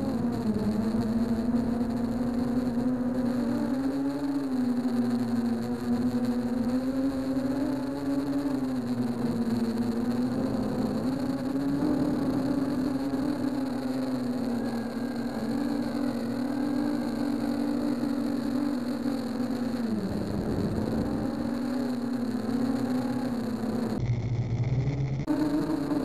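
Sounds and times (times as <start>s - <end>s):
quadcopter motors buzzing: 0.0s - 26.0s.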